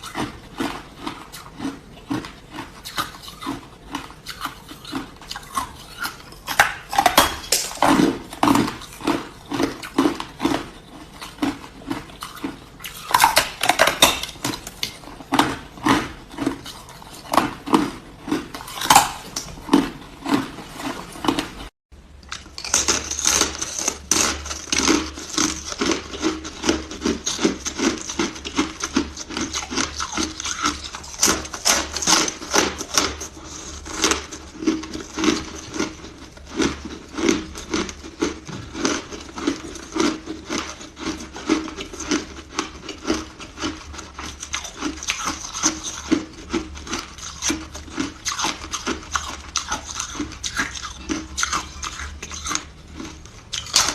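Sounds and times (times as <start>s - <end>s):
ice being chewed: 0.0s - 53.9s.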